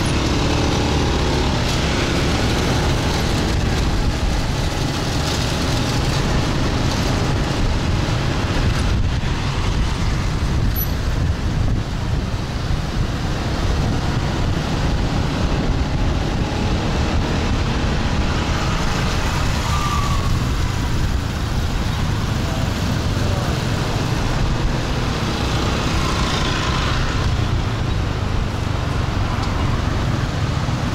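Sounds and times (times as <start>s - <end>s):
traffic: 0.0s - 30.9s
wind on microphone: 0.0s - 30.9s.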